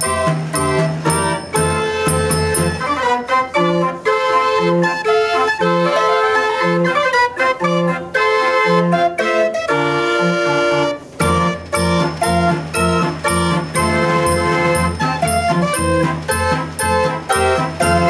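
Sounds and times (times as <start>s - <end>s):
fair organ playing a tune: 0.0s - 18.0s.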